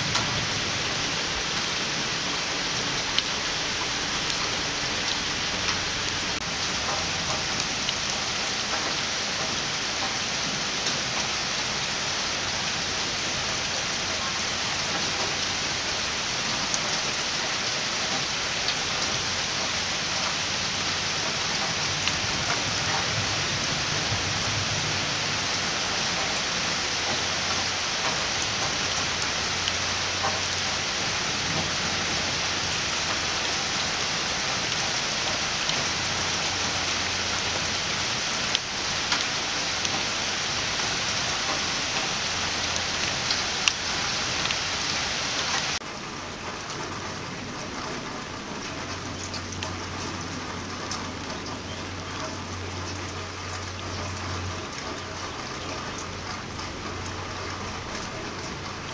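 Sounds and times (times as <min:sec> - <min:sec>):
rain on a wooden deck: 0:00.0 - 0:58.9.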